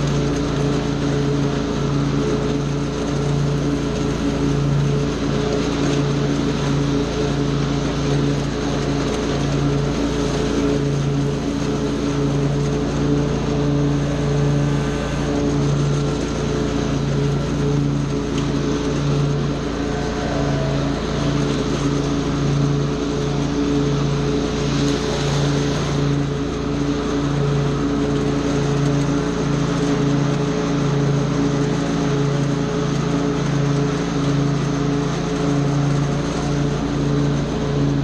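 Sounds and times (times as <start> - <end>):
small gasoline engine running: 0.0 - 38.0.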